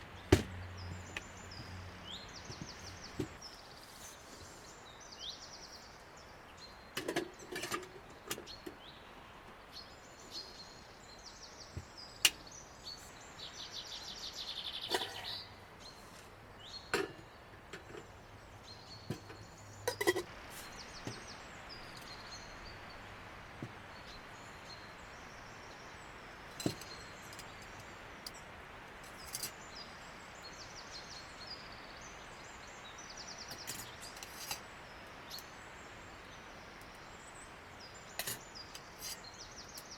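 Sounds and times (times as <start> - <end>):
small birds singing: 0.0 - 39.9
steady background hiss: 0.0 - 39.9.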